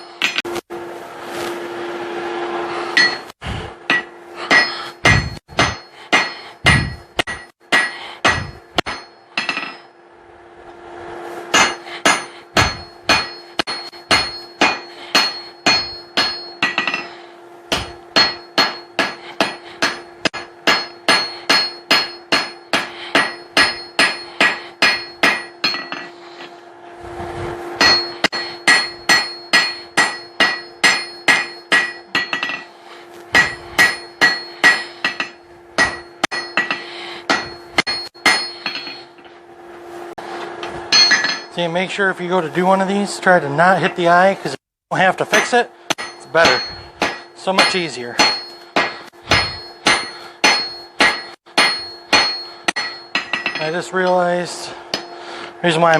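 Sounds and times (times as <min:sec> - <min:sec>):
hammer striking steel on anvil: 0:00.0 - 0:00.6, 0:02.8 - 0:10.1, 0:11.4 - 0:26.6, 0:27.8 - 0:39.4, 0:40.3 - 0:41.8, 0:45.0 - 0:55.9
steady hum: 0:00.0 - 0:55.9.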